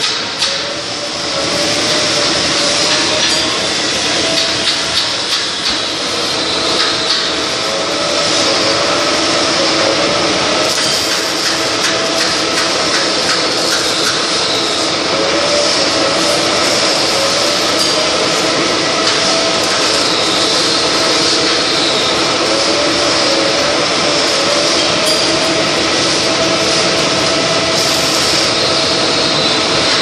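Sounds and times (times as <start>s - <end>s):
milling machine cutting metal: 0.0s - 30.0s.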